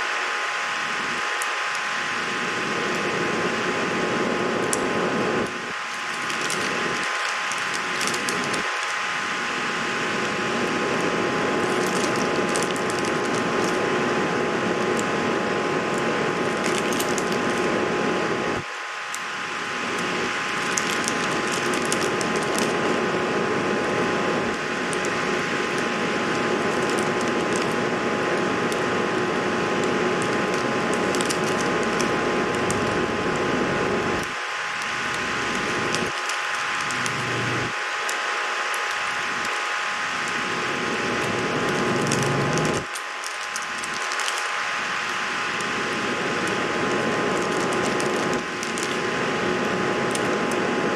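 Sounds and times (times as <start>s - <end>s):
faint hum: 0.0s - 50.9s
steady hiss: 0.0s - 50.9s.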